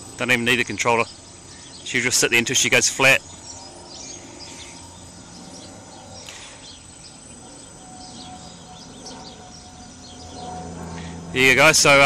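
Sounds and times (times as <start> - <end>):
birds chirping: 0.0 - 12.0
distant drone hum: 0.0 - 12.0
low outdoor rumble: 0.0 - 12.0.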